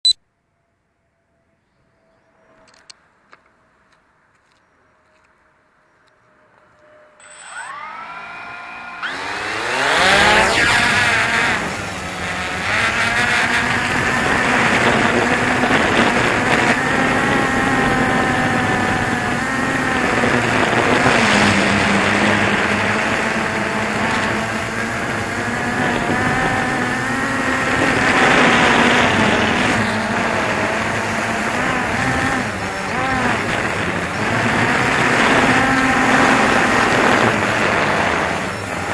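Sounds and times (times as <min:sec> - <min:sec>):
drone propellers whining: 0:06.8 - 0:38.9.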